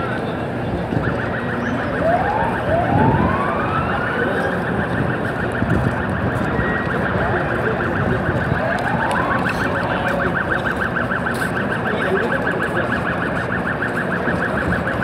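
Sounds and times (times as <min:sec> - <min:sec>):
siren whooping: 0:00.4 - 0:15.0.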